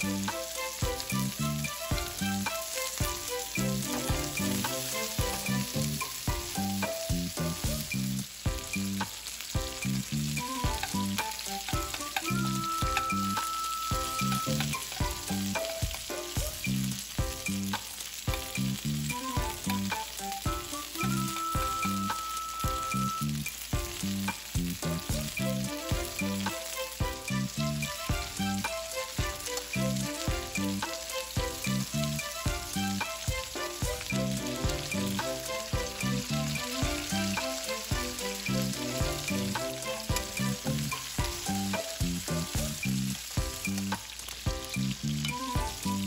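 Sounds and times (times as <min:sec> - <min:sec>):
background music with beat: 0:00.0 - 0:46.0
meat sizzling in butter: 0:00.0 - 0:46.0.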